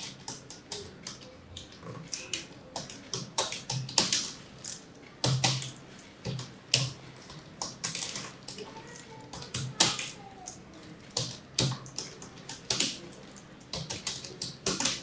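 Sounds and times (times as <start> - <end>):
typing on computer keyboard: 0.0 - 15.0.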